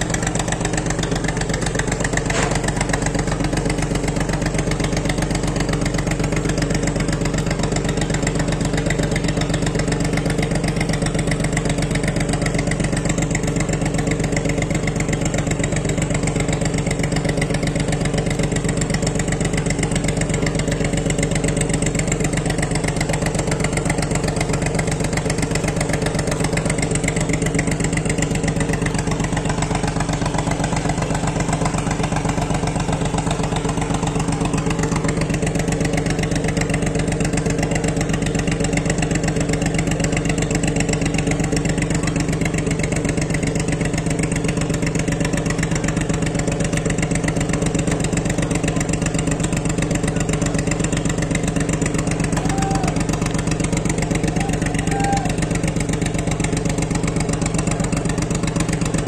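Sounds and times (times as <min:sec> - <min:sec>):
boat engine idling: 0:00.0 - 0:59.0.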